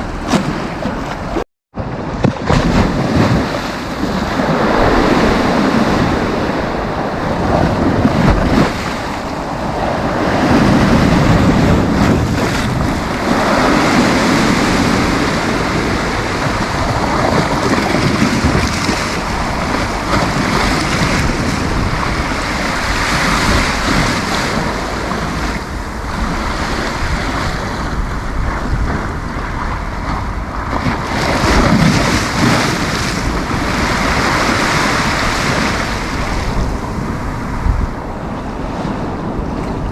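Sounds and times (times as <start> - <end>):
sea waves breaking on beach: 0.0 - 39.9
wind buffeting microphone: 0.0 - 39.9.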